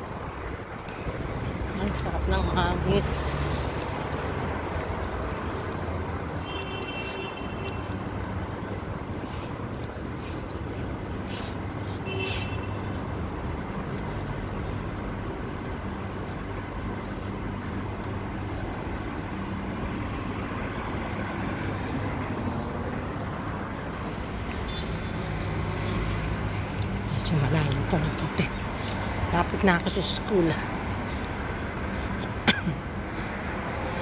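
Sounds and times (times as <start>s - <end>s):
car engines passing: 0.0s - 34.0s
road noise: 0.0s - 34.0s.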